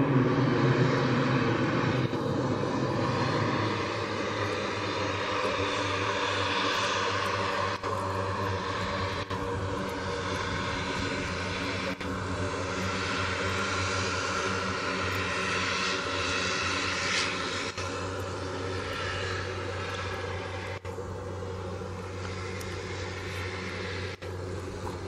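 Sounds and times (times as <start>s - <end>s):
propeller drone: 0.0s - 25.0s
turbine whine: 0.0s - 25.0s.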